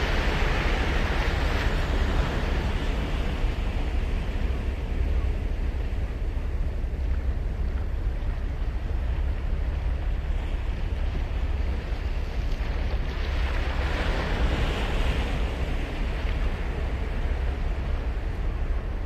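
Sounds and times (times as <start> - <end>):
low surf rumble: 0.0 - 19.0
wind buffeting microphone: 0.0 - 19.0.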